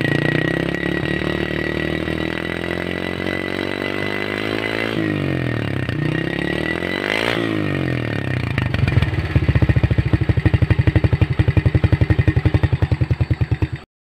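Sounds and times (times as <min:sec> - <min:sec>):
motorcycle engine revving and idling: 0:00.0 - 0:13.9.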